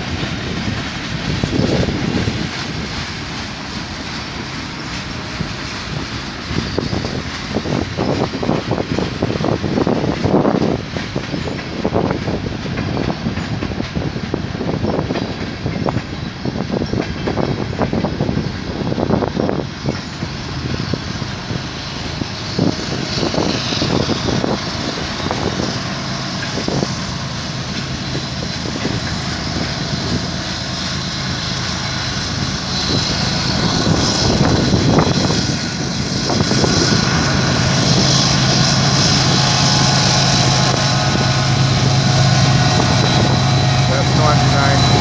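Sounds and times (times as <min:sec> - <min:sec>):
diesel locomotive engine drone: 0:00.0 - 0:45.0
train wheels clicking over rails: 0:00.0 - 0:45.0.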